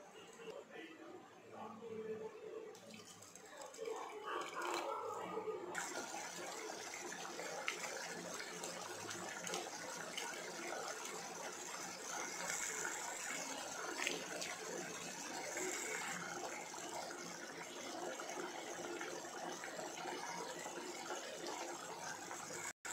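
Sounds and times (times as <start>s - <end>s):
liquid pouring and splashing: 2.7s - 22.9s.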